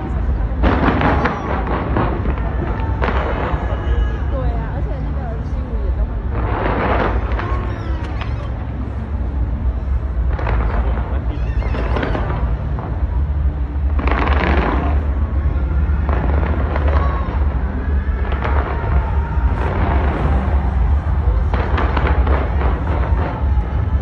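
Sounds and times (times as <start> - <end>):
crackling firework volleys: 0.0 - 24.0
deep rumble of firework bursts: 0.0 - 24.0.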